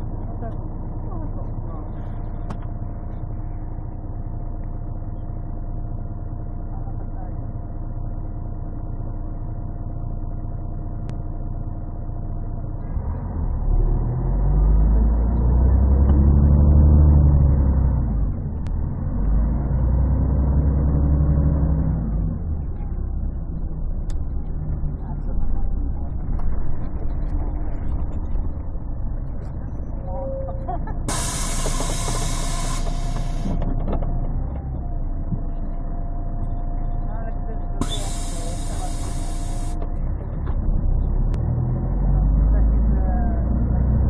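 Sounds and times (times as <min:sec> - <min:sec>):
muffled bus diesel engine: 0:00.0 - 0:44.0.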